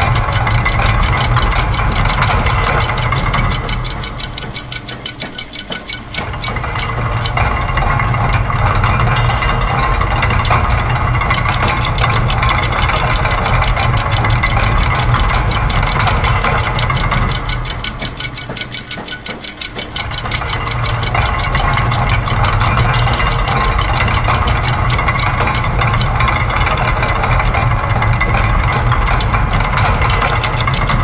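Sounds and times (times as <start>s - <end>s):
low machine hum: 0.0s - 31.0s
rapid mechanical clicking: 0.0s - 31.0s.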